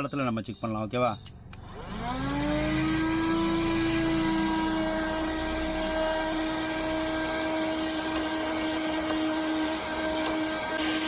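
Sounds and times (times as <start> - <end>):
handheld vacuum cleaner whine: 1.6 - 11.0.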